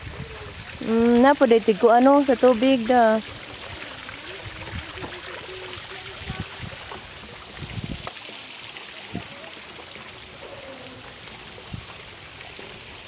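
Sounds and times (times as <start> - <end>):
water trickling over rocks: 0.0 - 13.0.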